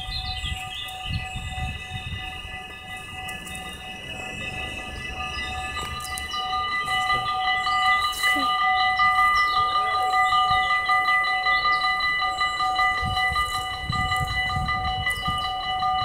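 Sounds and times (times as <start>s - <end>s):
small birds chirping: 0.0s - 15.8s
electric train approaching: 0.0s - 16.0s
level crossing warning bells: 0.0s - 16.0s.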